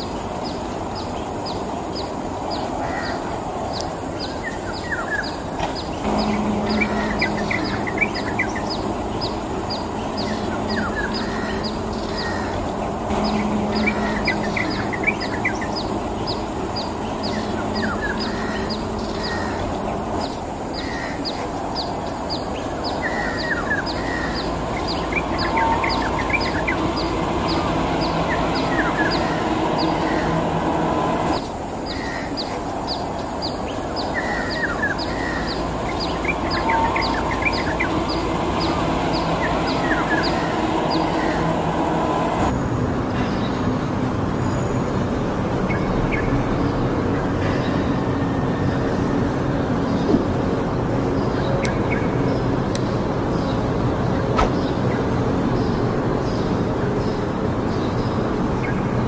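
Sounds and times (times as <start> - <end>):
bird singing: 0.0 - 59.0
steady background hiss: 0.0 - 59.0.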